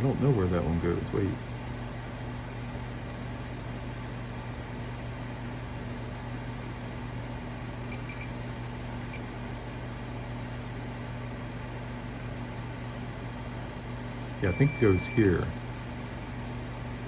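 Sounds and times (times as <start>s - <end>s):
low electrical hum with hiss: 0.0s - 17.0s.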